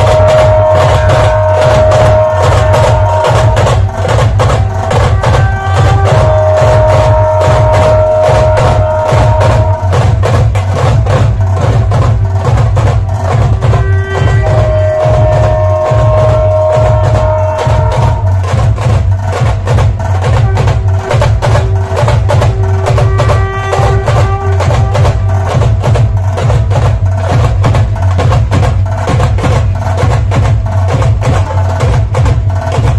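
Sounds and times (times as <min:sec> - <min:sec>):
deep drum beats: 0:00.0 - 0:32.9
rapid sharp drum strokes: 0:00.0 - 0:32.9.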